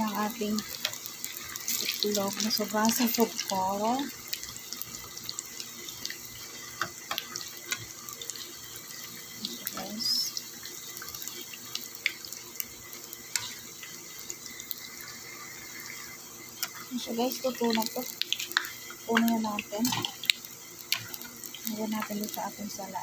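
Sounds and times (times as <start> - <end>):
eggs deep-frying in hot oil: 0.0 - 23.0.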